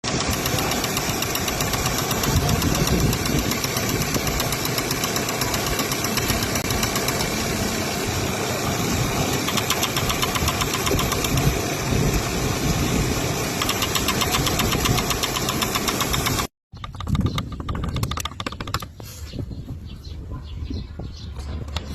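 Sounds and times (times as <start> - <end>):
engine running with fast ticking: 0.0 - 18.9.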